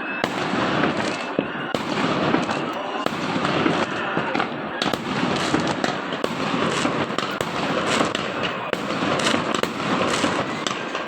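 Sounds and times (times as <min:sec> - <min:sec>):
firecrackers crackling and popping: 0:00.0 - 0:11.0
loud firework bangs: 0:00.0 - 0:11.0.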